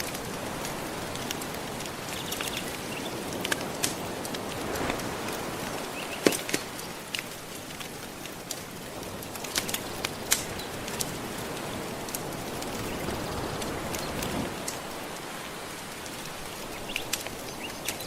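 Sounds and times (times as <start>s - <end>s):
soft ocean waves washing: 0.0s - 18.0s
wood fire crackling and popping: 0.0s - 18.0s.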